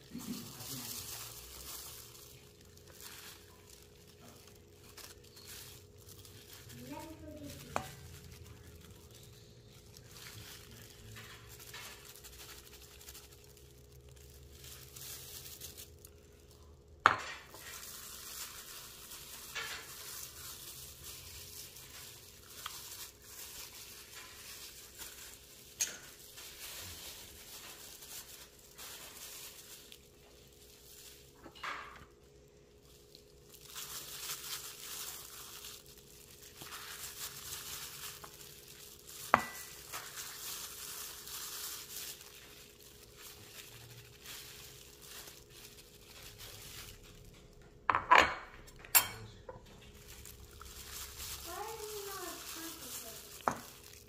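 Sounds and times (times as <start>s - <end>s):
rustling in breadcrumbs: 0.0s - 47.9s, 49.6s - 54.0s.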